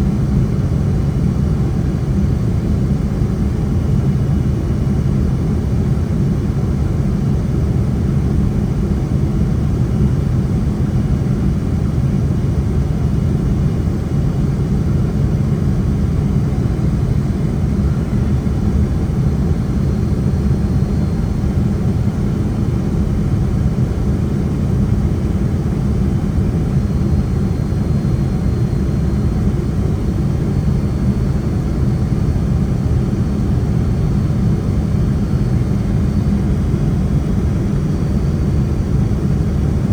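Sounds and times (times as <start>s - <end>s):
airplane cabin jet engine rumble: 0.0s - 39.9s.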